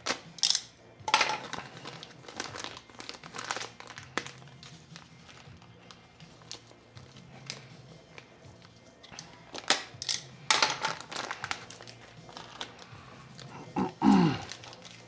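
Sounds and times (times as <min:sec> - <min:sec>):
plastic bag crinkling: 0:01.1 - 0:15.0.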